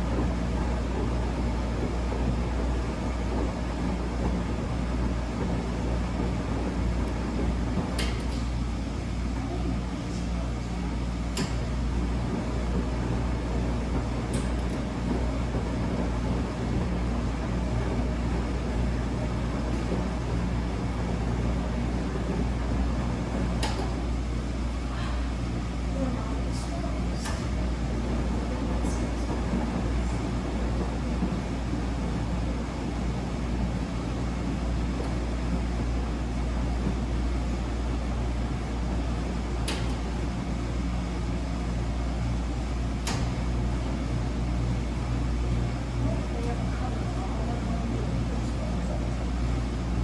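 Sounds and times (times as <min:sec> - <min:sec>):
washing machine motor hum: 0:00.0 - 0:50.0.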